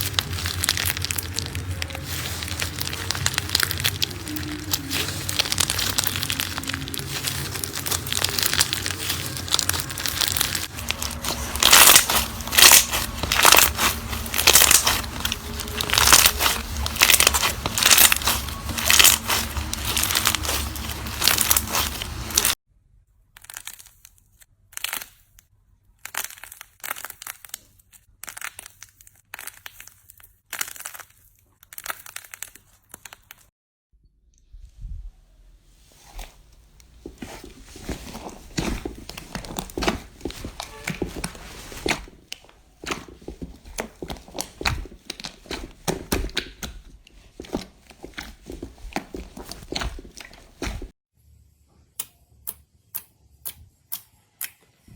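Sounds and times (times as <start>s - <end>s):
slime crackling and popping: 0.0s - 22.6s, 23.4s - 24.1s, 24.8s - 25.4s, 26.0s - 33.5s, 36.0s - 50.9s.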